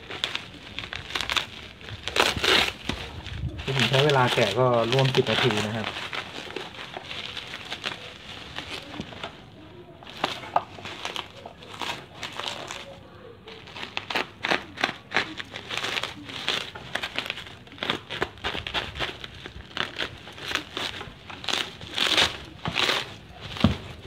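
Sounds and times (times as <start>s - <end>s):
bubble wrap crinkling and crackling: 0.0s - 24.0s.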